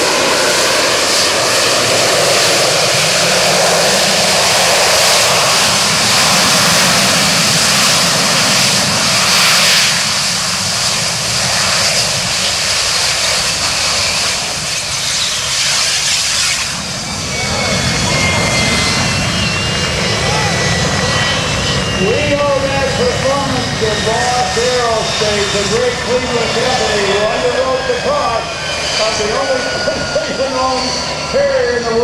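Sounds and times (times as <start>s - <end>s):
jet engine at high power: 0.0s - 32.0s.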